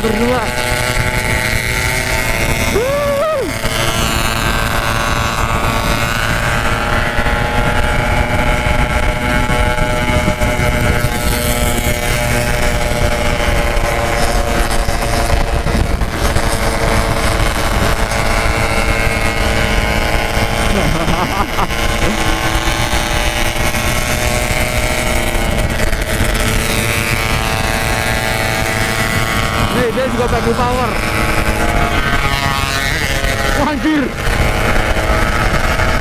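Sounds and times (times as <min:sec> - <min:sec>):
two-stroke motorcycles cruising: 0:00.0 - 0:36.0
wind on microphone: 0:00.0 - 0:36.0.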